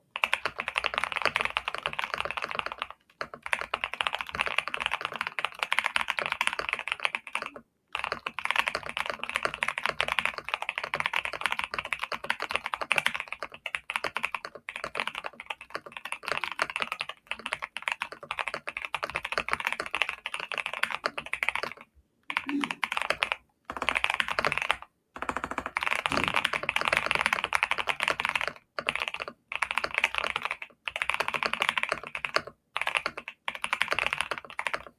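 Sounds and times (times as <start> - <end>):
fast mechanical keyboard typing: 0.2 - 34.9.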